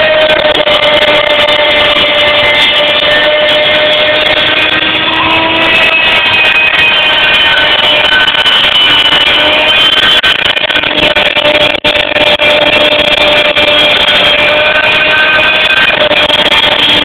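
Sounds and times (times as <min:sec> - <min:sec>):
cnc mill cutting plastic: 0:00.0 - 0:17.0
whining motor tones: 0:00.0 - 0:17.0.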